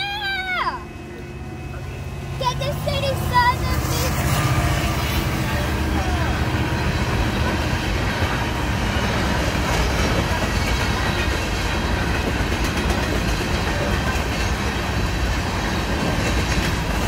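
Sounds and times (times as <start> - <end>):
steel wheels running on rails: 0.0 - 17.0.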